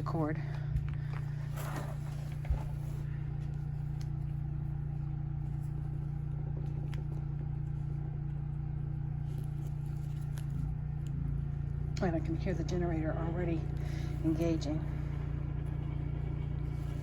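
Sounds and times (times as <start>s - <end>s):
generator engine humming: 0.0s - 17.0s.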